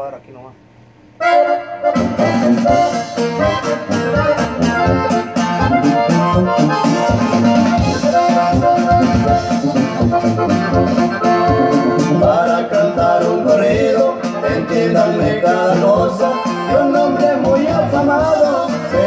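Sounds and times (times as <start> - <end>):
button accordion melody: 1.2 - 19.0
strummed guitar: 1.2 - 19.0.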